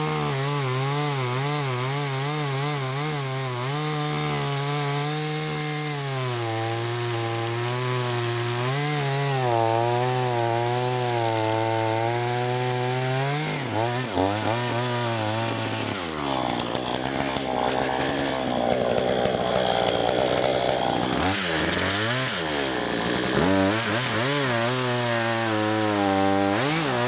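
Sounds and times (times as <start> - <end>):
chainsaw cutting log: 0.0 - 27.0.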